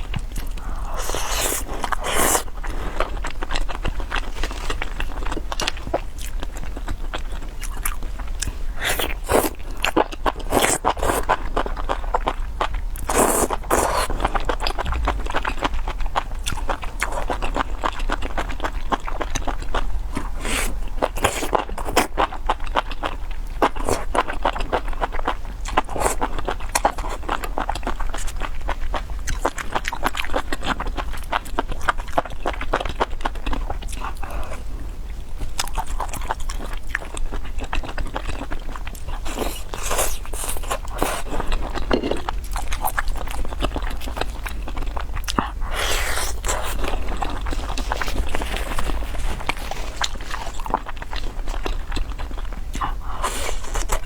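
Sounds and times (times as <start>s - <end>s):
wet chewing and crunching: 0.0s - 54.0s.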